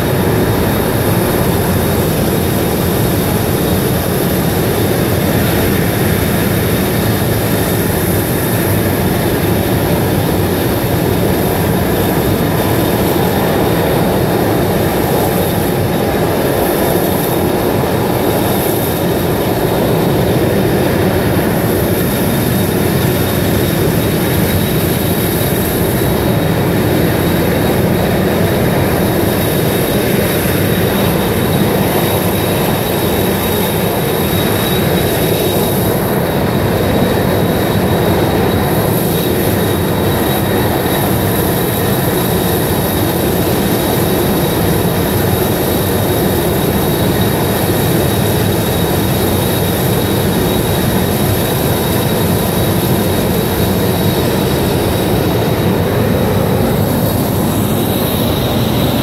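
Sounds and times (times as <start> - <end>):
steam venting with rushing hiss: 0.0 - 59.0.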